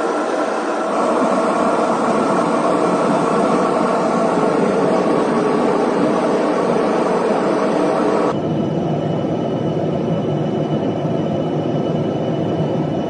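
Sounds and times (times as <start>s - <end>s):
jet engines roaring at takeoff: 0.0s - 13.0s.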